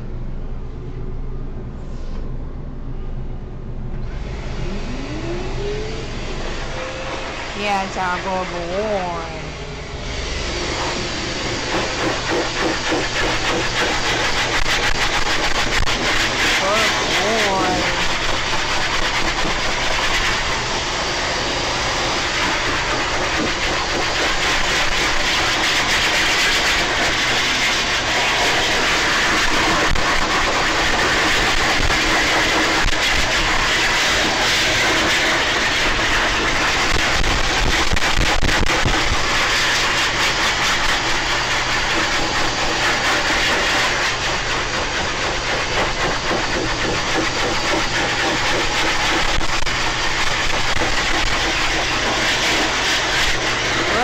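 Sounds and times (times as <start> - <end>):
pet dryer blowing air: 4.1 - 54.0.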